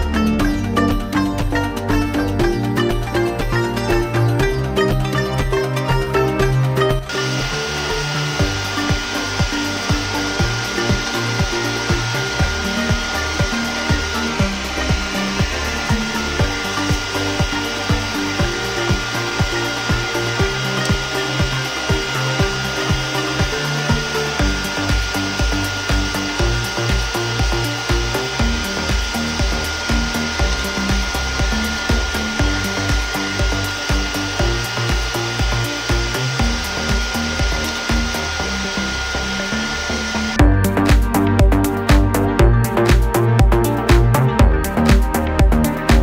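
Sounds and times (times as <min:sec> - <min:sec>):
background music with a beat: 0:00.0 - 0:46.0
hair dryer motor whining: 0:00.0 - 0:46.0.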